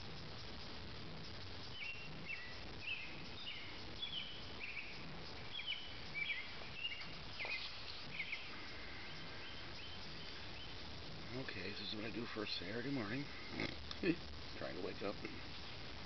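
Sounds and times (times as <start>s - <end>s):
outdoor background hiss: 0.0s - 16.0s
small birds chirping: 0.0s - 16.0s.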